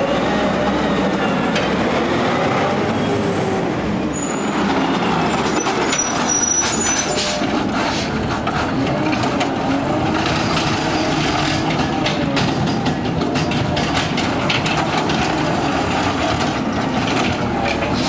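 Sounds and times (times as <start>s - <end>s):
garbage truck engine running hard: 0.0s - 18.0s.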